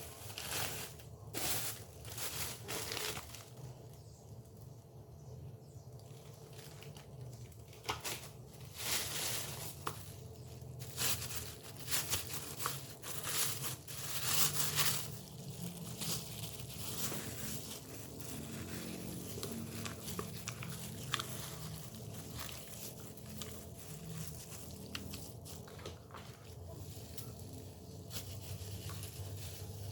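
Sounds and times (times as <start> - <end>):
plastic packaging crinkling: 0.0 - 4.7, 5.7 - 29.9.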